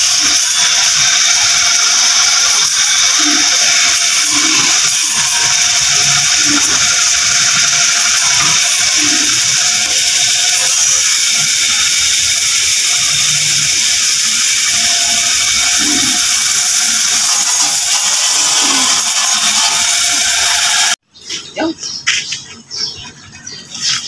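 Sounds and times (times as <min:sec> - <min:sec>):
water jet spraying on metal: 0:00.0 - 0:21.0.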